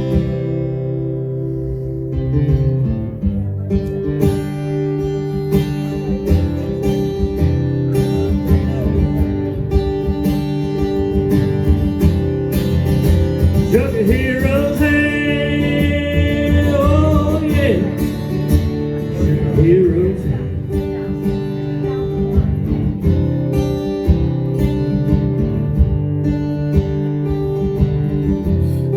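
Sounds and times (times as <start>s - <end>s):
country band playing: 0.0s - 28.9s
strummed acoustic guitar: 0.0s - 28.9s.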